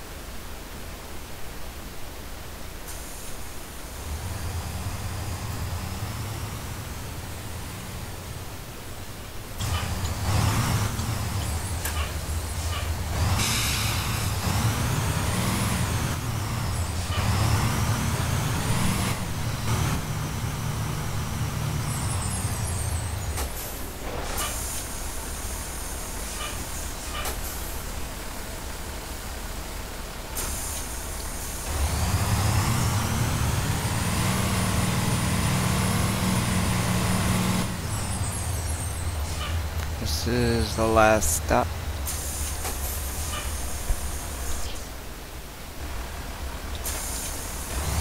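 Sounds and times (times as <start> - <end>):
bus engine running: 2.8 - 48.0.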